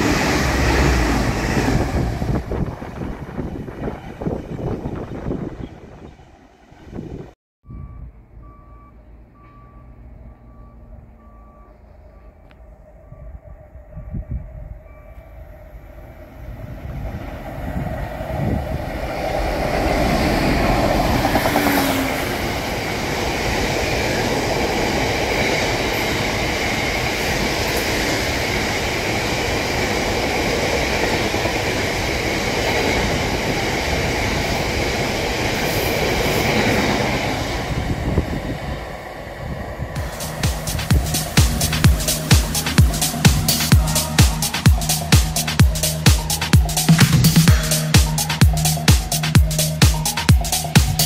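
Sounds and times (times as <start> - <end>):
freight train rumble: 0.0 - 51.0.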